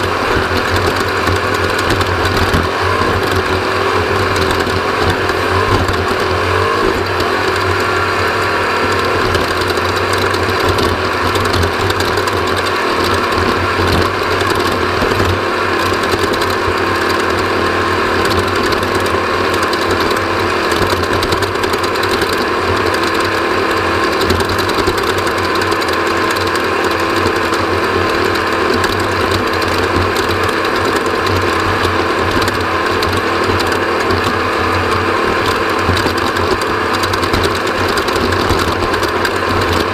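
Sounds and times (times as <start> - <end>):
dirt bike engine under load: 0.0 - 39.9.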